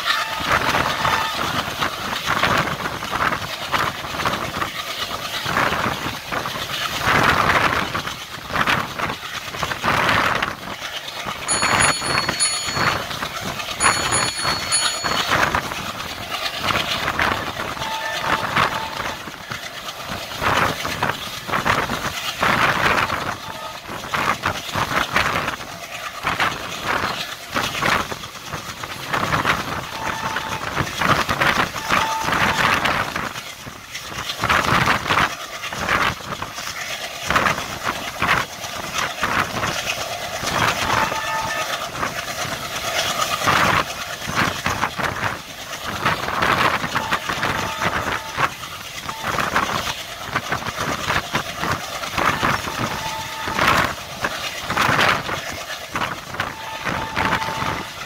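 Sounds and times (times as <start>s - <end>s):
train wheels rumbling and clattering: 0.0s - 58.0s.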